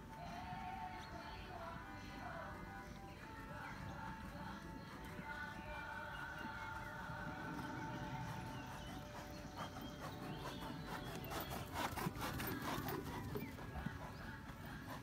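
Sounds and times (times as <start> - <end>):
hoofbeats on sand: 0.0 - 15.0
horse breathing: 0.1 - 15.0.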